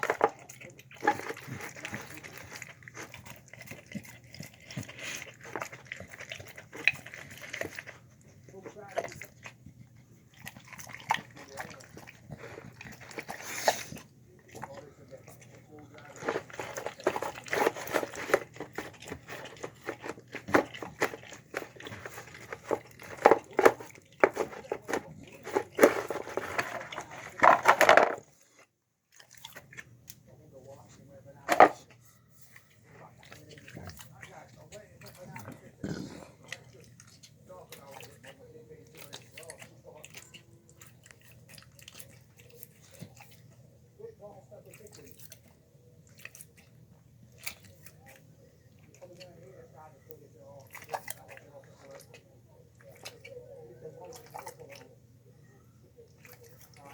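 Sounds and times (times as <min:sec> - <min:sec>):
dog chewing wetly: 0:00.0 - 0:56.9.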